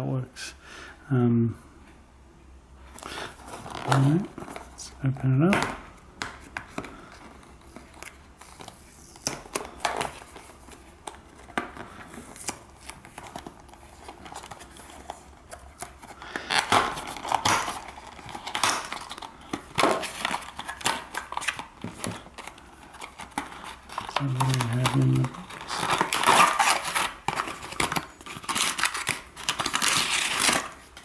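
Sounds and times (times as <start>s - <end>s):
packaging being opened by hand: 3.0s - 4.8s, 5.5s - 31.0s.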